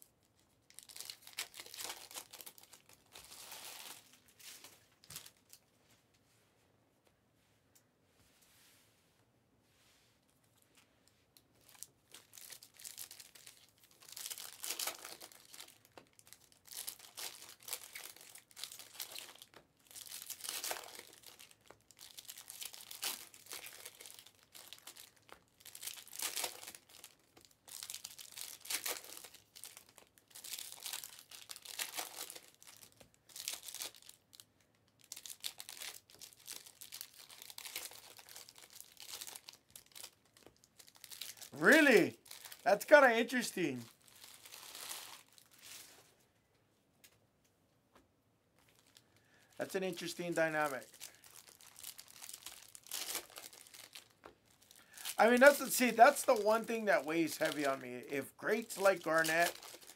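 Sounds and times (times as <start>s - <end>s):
foil wrappers crinkling and tearing: 0.0s - 5.6s, 11.6s - 46.1s, 48.6s - 59.9s.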